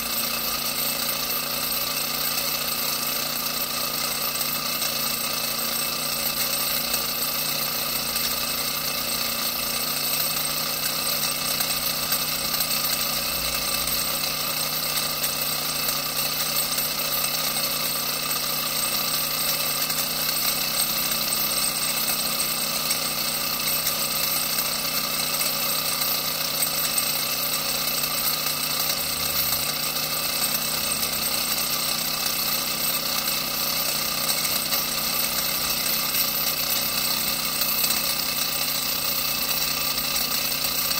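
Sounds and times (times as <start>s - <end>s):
model engine mechanical rattle: 0.0s - 40.9s.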